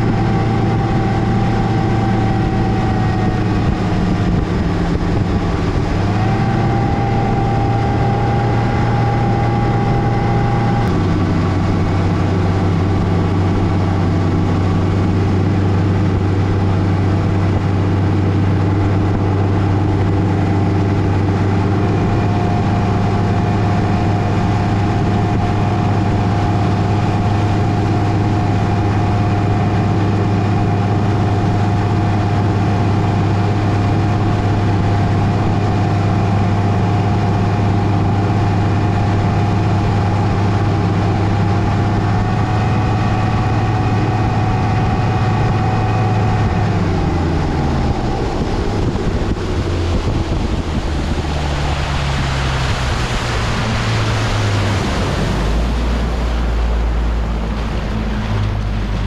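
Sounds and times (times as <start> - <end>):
outboard motor running: 0.0 - 59.0
wind and water rushing: 0.0 - 59.0.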